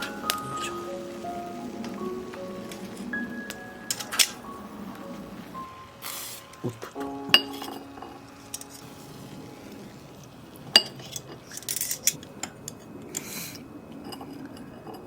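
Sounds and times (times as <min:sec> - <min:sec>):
hissy rustles: 0:00.0 - 0:12.4.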